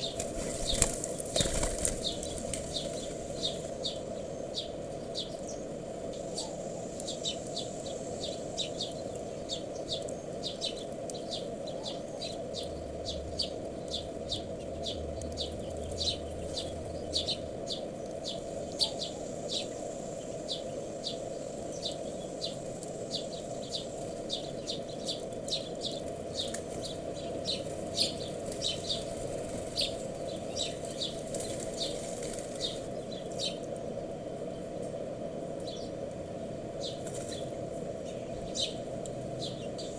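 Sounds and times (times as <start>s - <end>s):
low background noise: 0.0s - 39.9s
small birds chirping: 0.0s - 39.9s.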